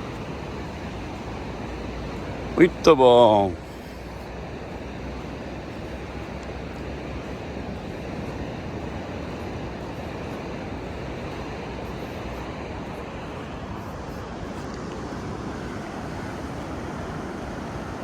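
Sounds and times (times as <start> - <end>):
sea surf on sandy beach: 0.0 - 18.0.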